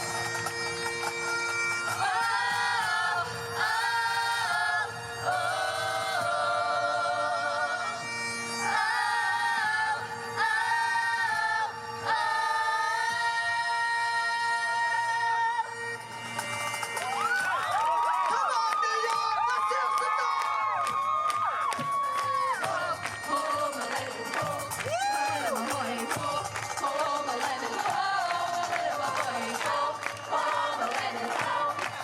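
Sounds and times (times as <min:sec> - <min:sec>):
voices singing in harmony: 0:01.9 - 0:17.3, 0:21.8 - 0:32.0.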